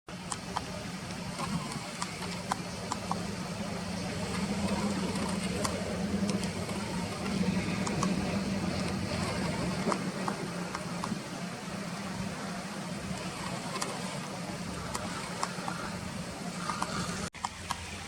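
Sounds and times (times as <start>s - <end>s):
low engine hum: 0.1s - 18.0s.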